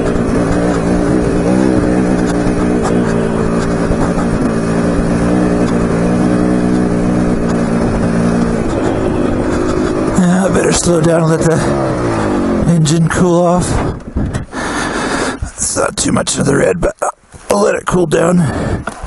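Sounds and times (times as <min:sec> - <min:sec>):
dirt bike engine running: 0:00.0 - 0:15.4.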